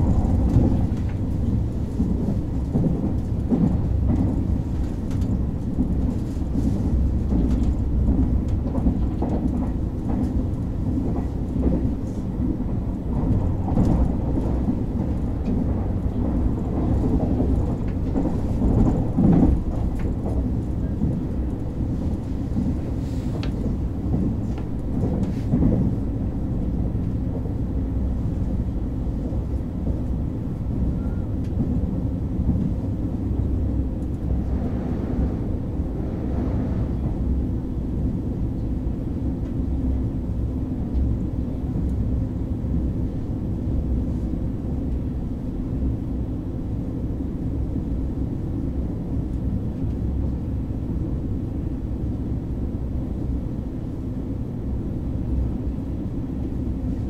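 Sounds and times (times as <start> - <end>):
train rumble from inside carriage: 0.0 - 57.0.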